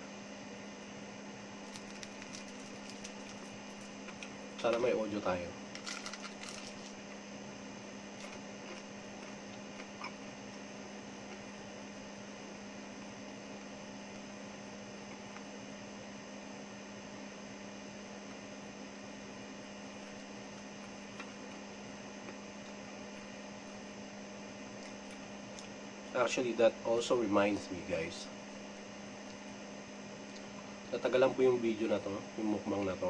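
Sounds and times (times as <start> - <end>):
electrical hum: 0.0 - 33.0.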